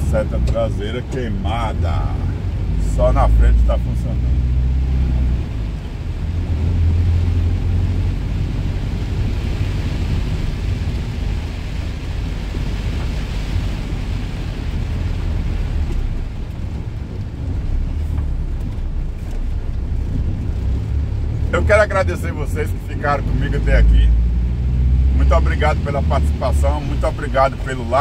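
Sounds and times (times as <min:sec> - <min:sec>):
rain and wet tyres hissing: 0:00.0 - 0:28.0
truck engine and road rumble: 0:00.0 - 0:28.0.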